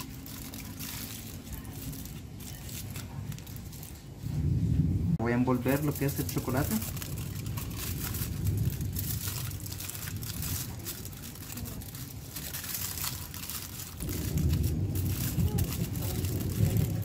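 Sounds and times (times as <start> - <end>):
foil crinkling: 0.0 - 4.4, 5.4 - 17.0
low rumble: 0.0 - 17.0.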